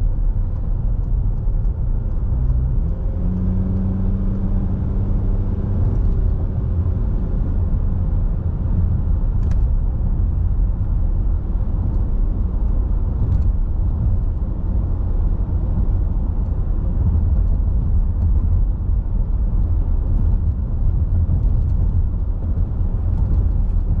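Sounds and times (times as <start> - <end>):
car tyre and engine rumble: 0.0 - 24.0.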